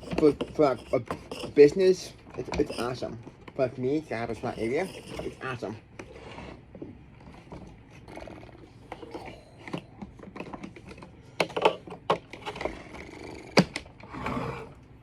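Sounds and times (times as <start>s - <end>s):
plastic parts clicking and knocking: 0.0s - 3.7s, 4.4s - 6.1s, 6.8s - 14.0s.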